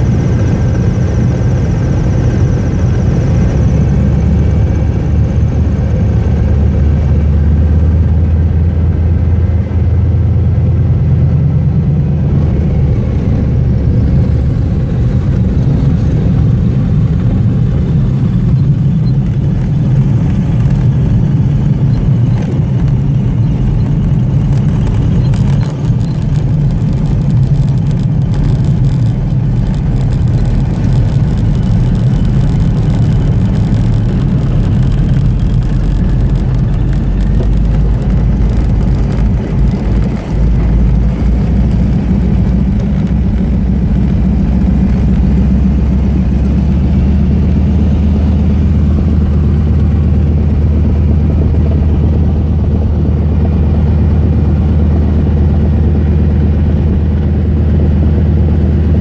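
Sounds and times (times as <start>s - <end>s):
light aircraft engine and propeller: 0.0s - 59.0s.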